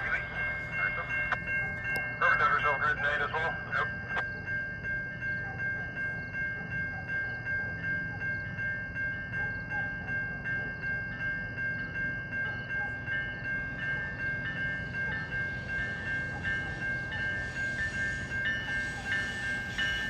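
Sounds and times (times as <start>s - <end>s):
crossing warning bell ringing: 0.0s - 20.0s
train rumbling: 0.0s - 20.0s.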